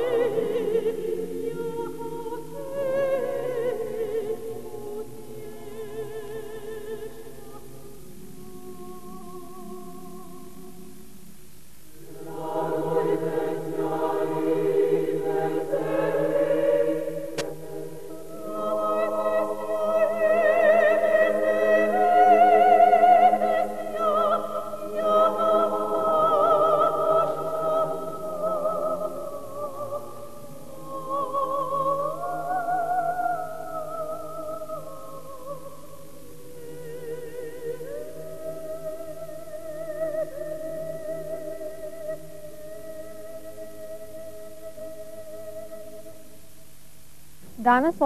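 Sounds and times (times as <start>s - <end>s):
mixed choir singing: 0.0s - 10.9s, 12.0s - 42.3s.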